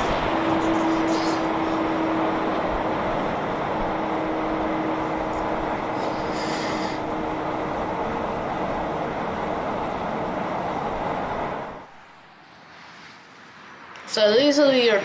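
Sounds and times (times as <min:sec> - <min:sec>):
heavy truck tyre and engine noise: 0:00.0 - 0:15.0.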